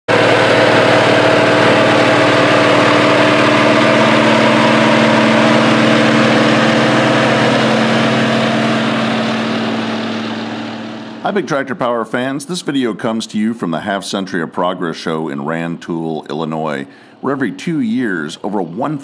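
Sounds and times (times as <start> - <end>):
tractor diesel engine drone: 0.1 - 19.0.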